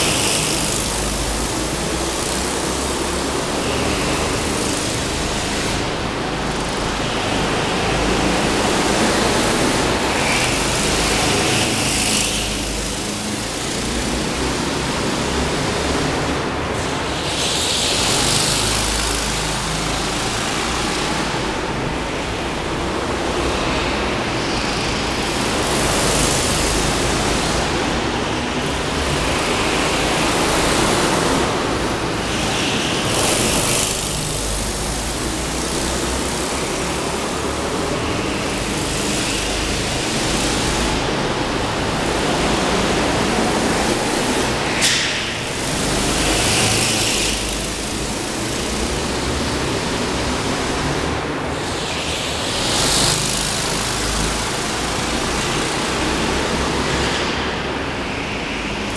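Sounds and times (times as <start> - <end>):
go-kart engines passing: 0.0 - 58.9.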